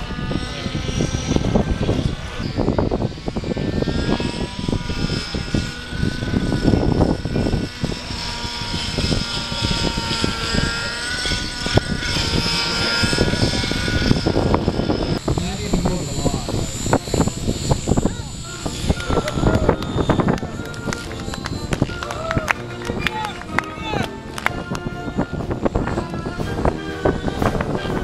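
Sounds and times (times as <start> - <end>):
model helicopter motor whine: 0.0 - 28.0
wind rumbling on microphone: 0.0 - 28.0.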